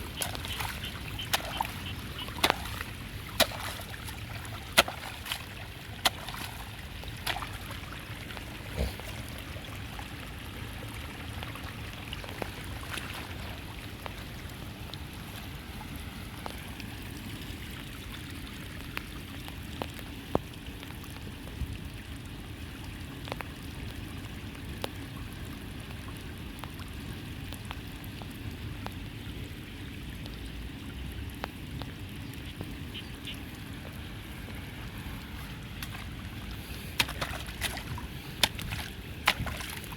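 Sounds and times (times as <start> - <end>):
rain water running into drain: 0.0 - 39.9.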